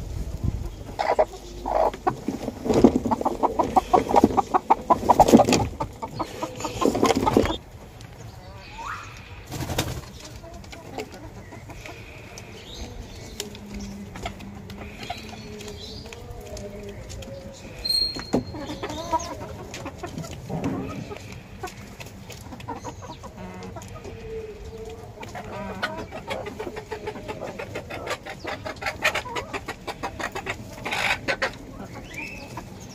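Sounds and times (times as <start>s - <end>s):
chickens clucking: 0.0s - 32.9s
chickens flurry: 0.0s - 32.9s.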